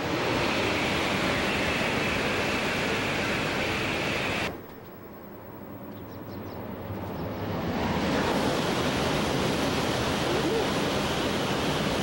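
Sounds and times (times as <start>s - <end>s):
high-speed train rushing: 0.0s - 4.7s, 6.6s - 12.0s.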